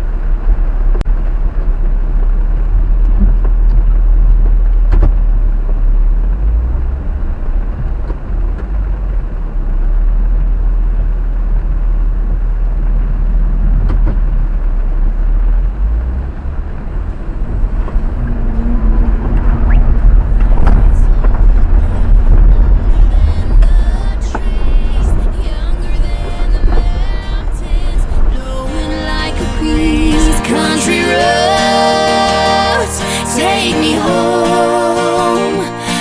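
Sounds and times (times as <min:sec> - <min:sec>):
engine and tyres rumbling: 0:00.0 - 0:30.5.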